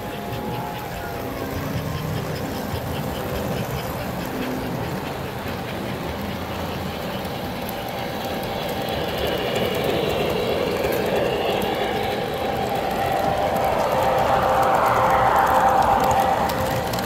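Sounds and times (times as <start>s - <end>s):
model trains wheels clicking: 0.0s - 17.0s.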